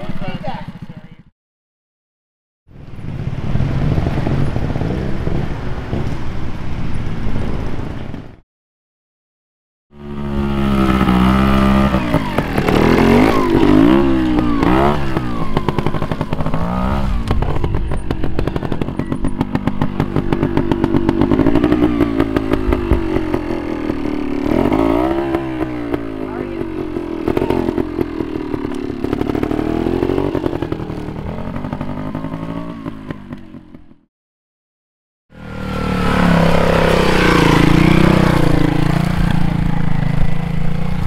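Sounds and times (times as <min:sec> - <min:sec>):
motorcycle engine revving: 0:02.8 - 0:08.2, 0:09.9 - 0:34.1, 0:35.3 - 0:41.0.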